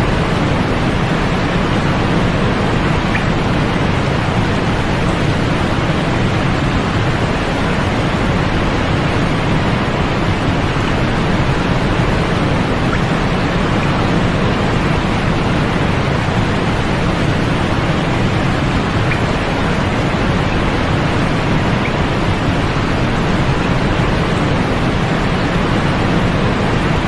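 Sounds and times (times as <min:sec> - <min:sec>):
steady white noise: 0:00.0 - 0:27.0.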